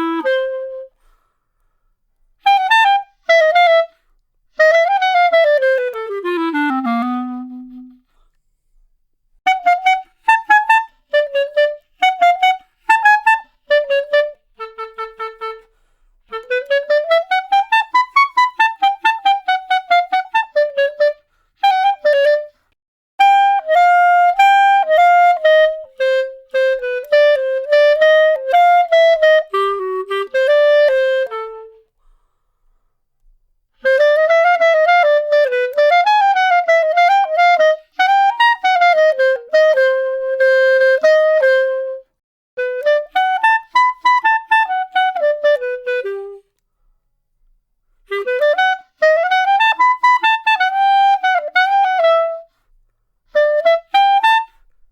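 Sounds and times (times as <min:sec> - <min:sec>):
solo clarinet: 0:00.0 - 0:08.5, 0:09.4 - 0:54.9.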